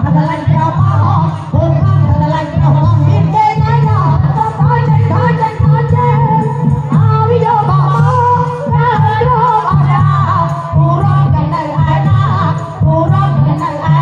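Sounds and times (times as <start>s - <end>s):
heavy bass beat: 0.0s - 14.0s
person singing: 0.0s - 14.0s.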